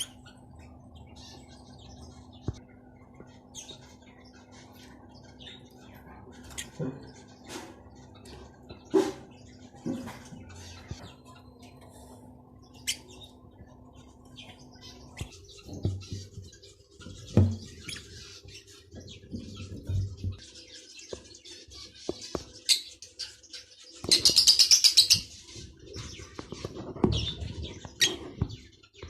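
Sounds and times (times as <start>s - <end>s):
lovebirds chirping: 0.0s - 29.0s.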